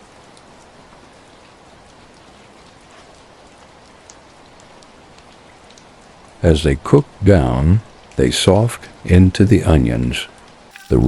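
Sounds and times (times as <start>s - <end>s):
rain pattering on leaves: 0.0s - 11.0s.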